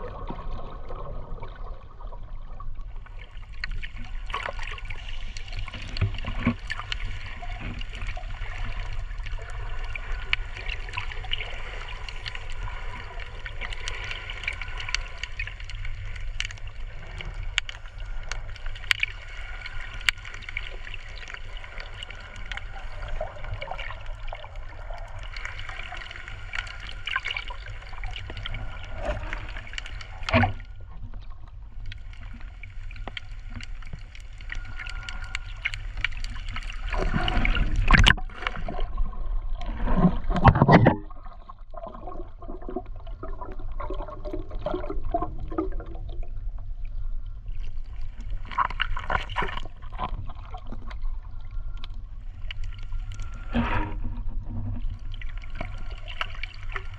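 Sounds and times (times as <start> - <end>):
underwater gurgling and sloshing: 0.0 - 56.9.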